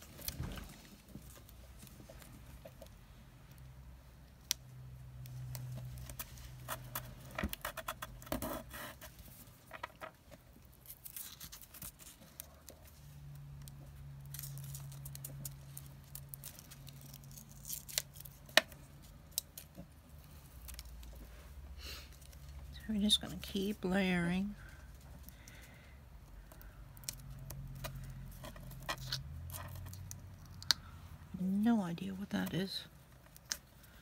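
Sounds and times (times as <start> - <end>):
clicks and rustles: 0.0 - 23.8, 24.6 - 31.0
low steady hum: 0.0 - 34.0.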